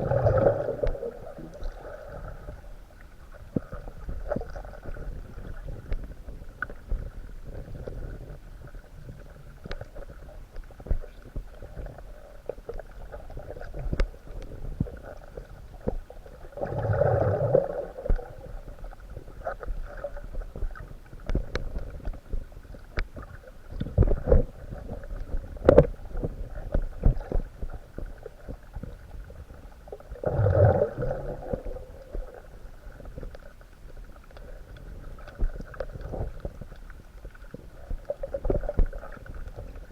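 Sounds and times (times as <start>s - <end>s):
low underwater hum: 0.0s - 39.9s.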